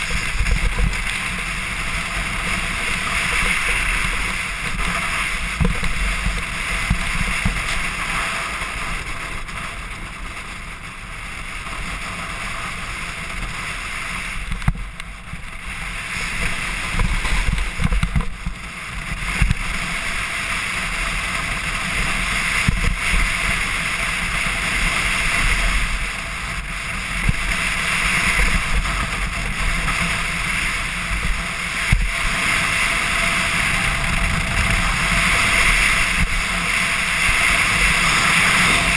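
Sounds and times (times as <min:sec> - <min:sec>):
snowboard scraping over snow: 0:00.0 - 0:38.9
wind on microphone: 0:00.0 - 0:38.9.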